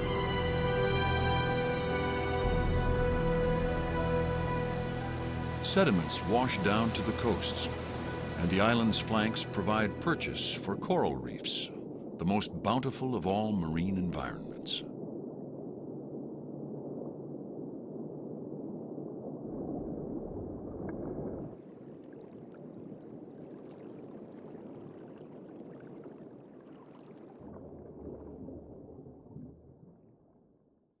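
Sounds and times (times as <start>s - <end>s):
underwater rush of water: 1.8s - 30.6s.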